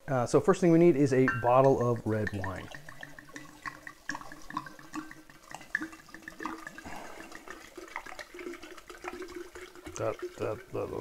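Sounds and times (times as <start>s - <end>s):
wine gurgling from a bottle: 0.0s - 11.0s.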